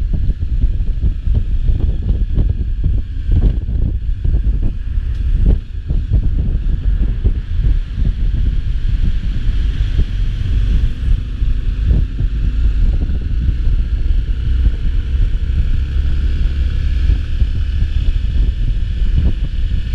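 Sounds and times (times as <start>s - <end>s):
road travel noise: 0.0s - 19.9s
wind rumble on microphone: 0.0s - 19.9s.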